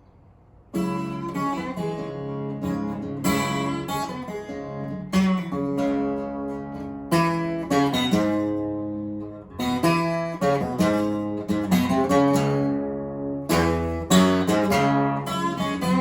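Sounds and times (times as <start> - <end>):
acoustic guitar playing blues: 0.7 - 16.0.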